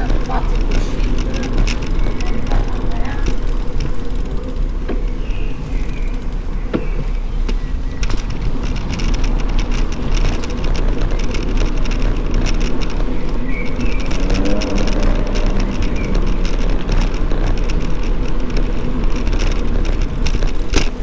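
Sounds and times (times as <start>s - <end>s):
bicycle tyres rumbling on asphalt: 0.0s - 21.0s
bike clicks and rattles: 0.0s - 21.0s
wind on microphone: 0.0s - 21.0s.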